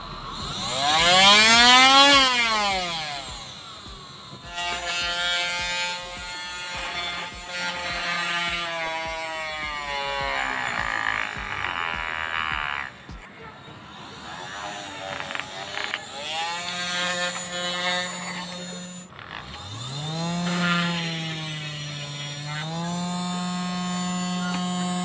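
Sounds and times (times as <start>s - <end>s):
motor drill whining: 0.0s - 25.0s.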